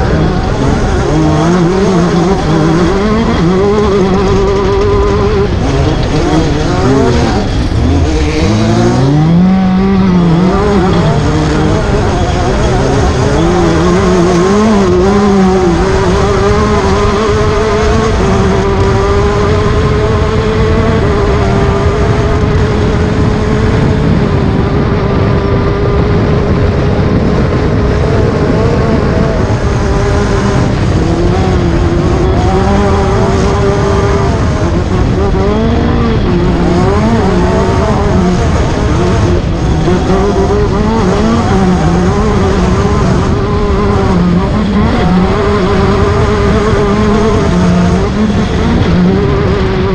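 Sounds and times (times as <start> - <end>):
low rumbling noise: 0.0 - 49.9
race car engine revving: 0.0 - 49.9.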